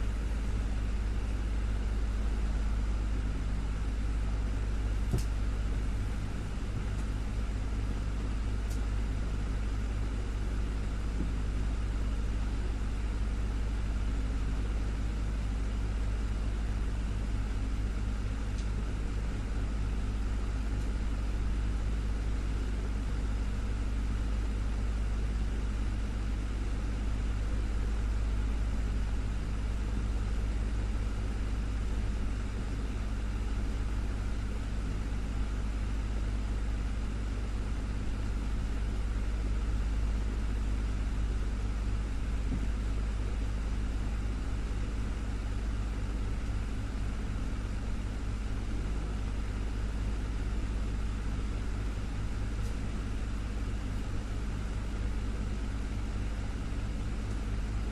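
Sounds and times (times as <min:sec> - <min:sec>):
desktop fan running: 0:00.0 - 0:57.9.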